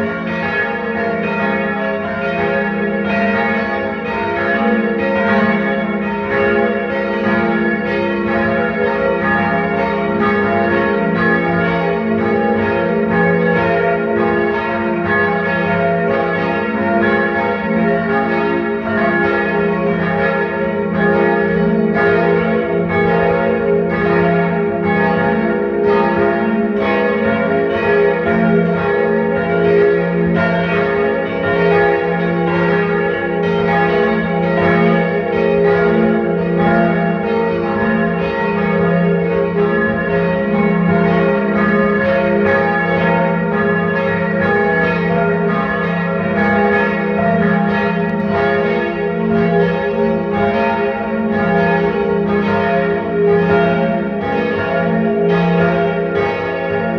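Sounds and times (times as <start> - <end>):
church bells pealing: 0.0 - 56.9.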